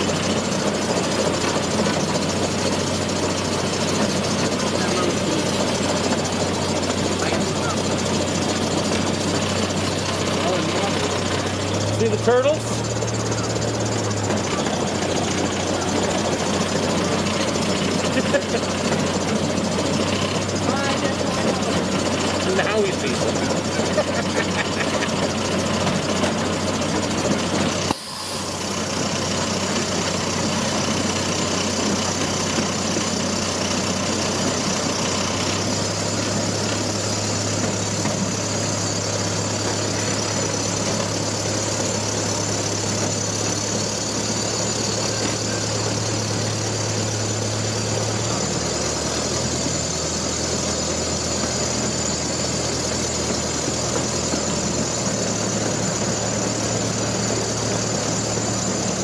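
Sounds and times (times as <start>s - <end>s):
train engine droning: 0.0s - 59.0s.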